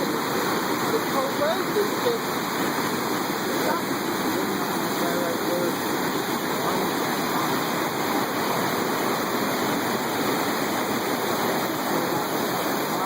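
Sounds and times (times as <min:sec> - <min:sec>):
floodwater rushing over road: 0:00.0 - 0:13.0.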